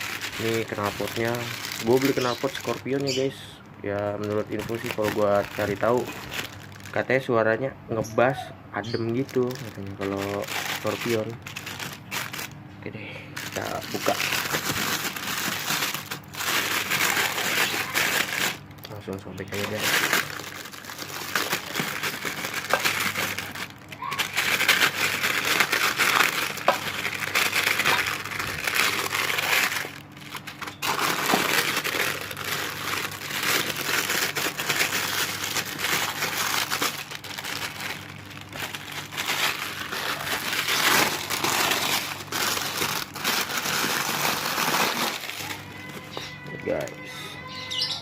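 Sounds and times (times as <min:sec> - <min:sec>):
packaging crinkling and tearing: 0:00.0 - 0:47.2.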